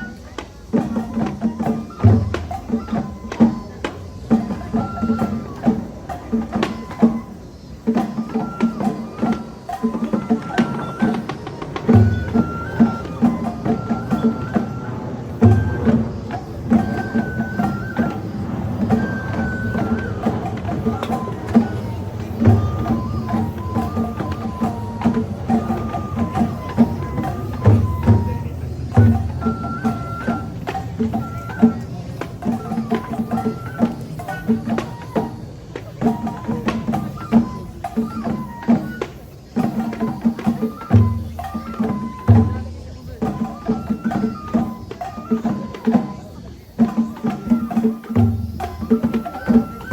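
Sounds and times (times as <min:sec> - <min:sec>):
bamboo flute: 0:00.0 - 0:49.9
drum beat: 0:00.1 - 0:49.9.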